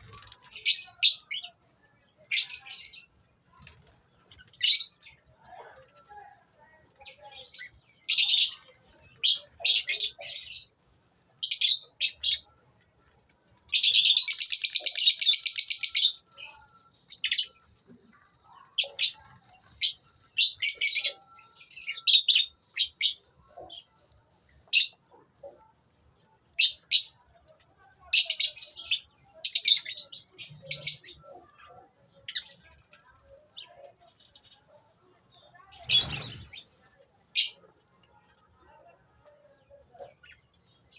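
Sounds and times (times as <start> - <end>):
lovebirds chirping: 0.0 - 12.9, 13.6 - 37.7.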